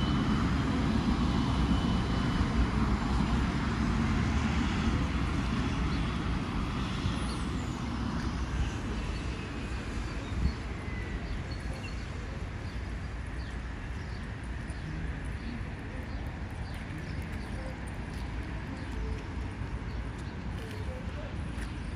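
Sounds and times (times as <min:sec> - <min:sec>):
tram rumbling: 0:00.0 - 0:21.9.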